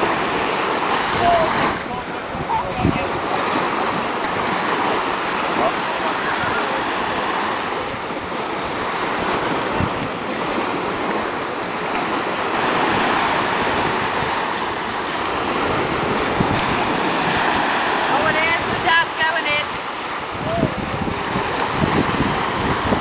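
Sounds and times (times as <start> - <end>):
surf washing up beach: 0.0 - 23.0
wind on microphone: 0.0 - 23.0.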